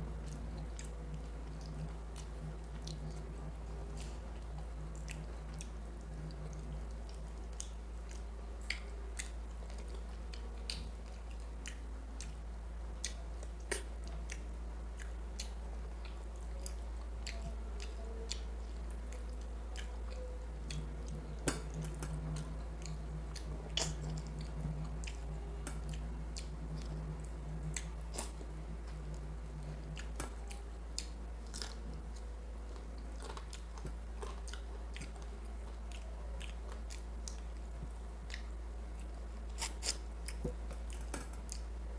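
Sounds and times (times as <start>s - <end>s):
chewing and wet mouth sounds: 0.0s - 41.9s
steady low hum: 0.0s - 41.9s.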